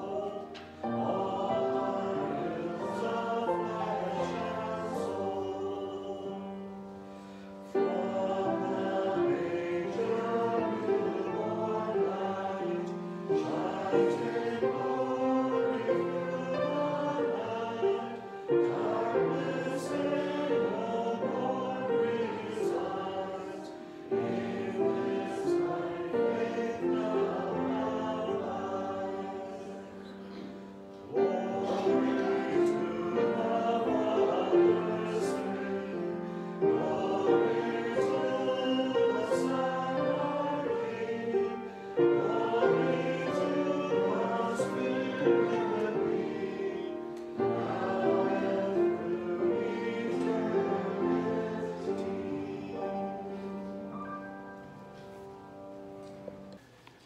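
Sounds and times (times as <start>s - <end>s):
group singing a hymn: 0.0s - 56.6s.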